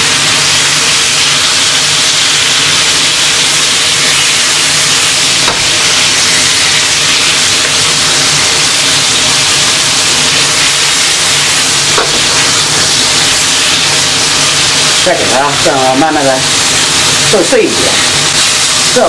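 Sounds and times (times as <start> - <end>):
peppers sizzling in hot oil: 0.0 - 19.0.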